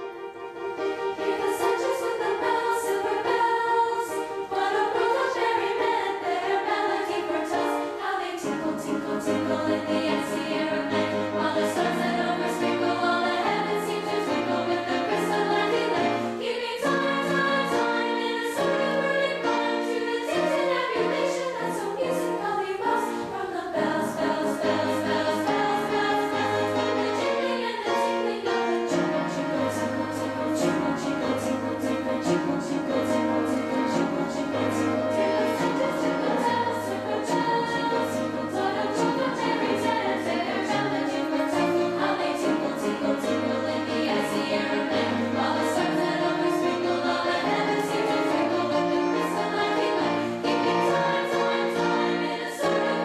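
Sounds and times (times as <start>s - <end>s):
piano accompaniment: 0.0s - 53.0s
girls' choir singing: 0.7s - 53.0s.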